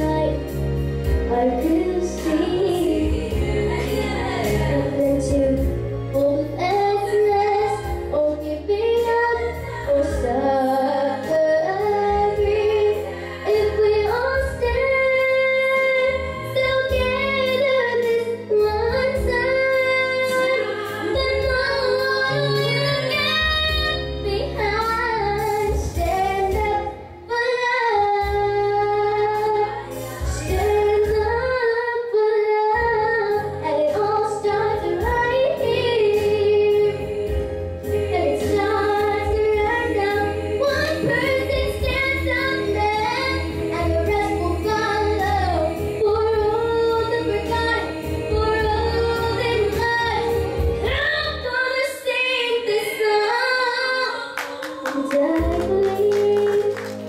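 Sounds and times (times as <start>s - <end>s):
girl singing into microphone: 0.0s - 0.6s, 1.2s - 37.4s, 38.0s - 56.8s
instrumental accompaniment: 0.0s - 52.0s.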